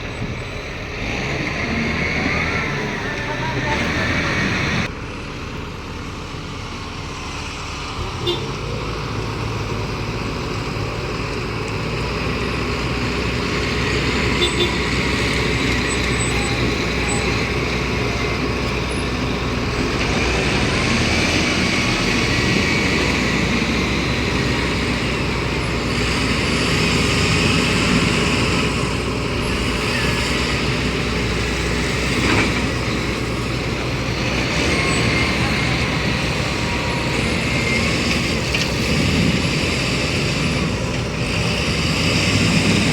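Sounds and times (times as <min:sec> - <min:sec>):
heavy diesel machinery rumbling: 0:00.0 - 0:42.9.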